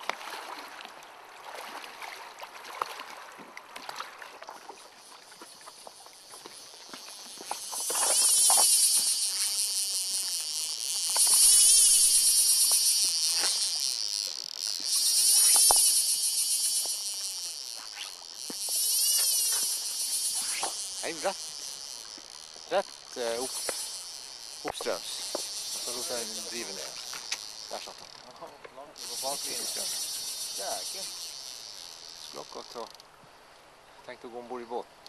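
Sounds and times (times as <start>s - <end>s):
fly reel drag buzzing: 4.8s - 33.2s.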